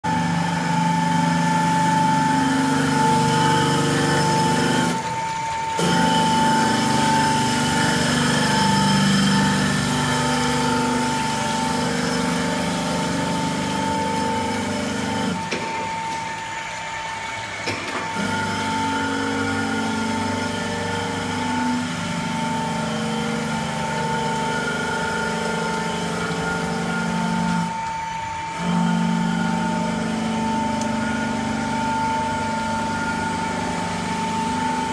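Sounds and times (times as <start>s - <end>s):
knife grinding machine whine: 0.0s - 34.9s.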